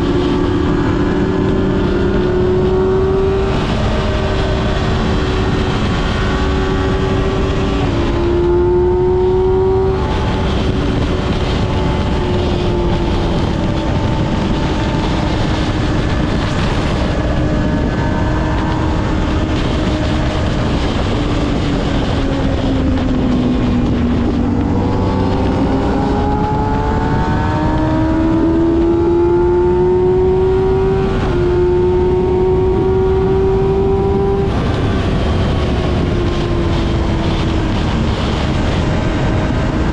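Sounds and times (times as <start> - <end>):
motorcycle engine accelerating: 0.0 - 39.9
wind noise rushing: 0.0 - 39.9.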